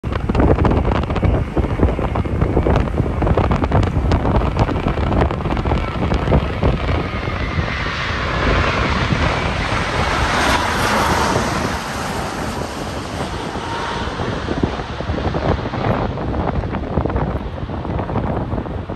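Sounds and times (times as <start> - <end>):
jet engines passing overhead: 0.0 - 18.9
wind buffeting microphone: 0.0 - 18.9.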